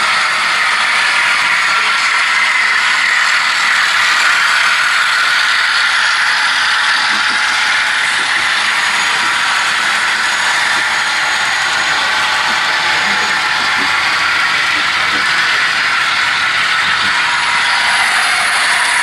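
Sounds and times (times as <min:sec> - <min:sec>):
locomotive motor whir: 0:00.0 - 0:19.0
model train wheels clattering: 0:00.0 - 0:19.0.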